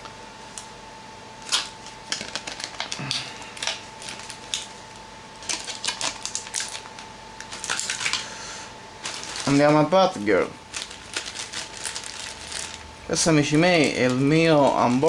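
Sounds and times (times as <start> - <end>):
plastic bags crinkling: 1.4 - 8.4, 9.0 - 15.0.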